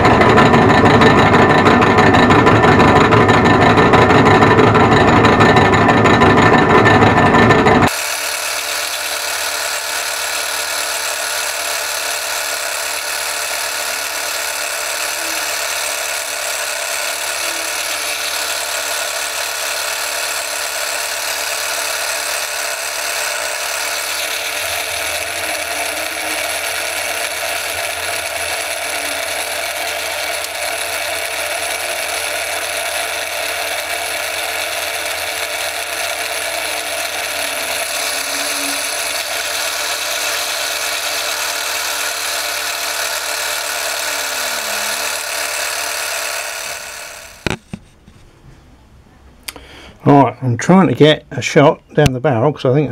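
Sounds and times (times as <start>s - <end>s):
drill cutting: 0.0s - 47.7s
lathe motor and gearing whirring: 0.0s - 48.0s.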